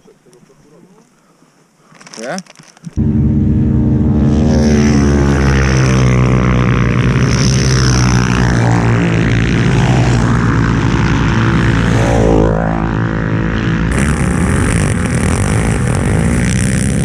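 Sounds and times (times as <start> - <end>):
quad engine running: 3.0 - 17.0.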